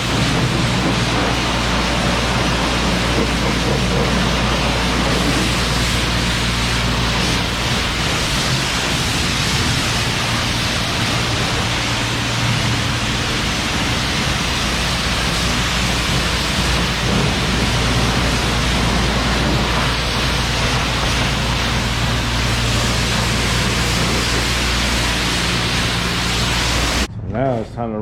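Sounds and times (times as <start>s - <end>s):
pressure wand spraying water: 0.0s - 27.1s
low steady hum: 0.0s - 28.0s.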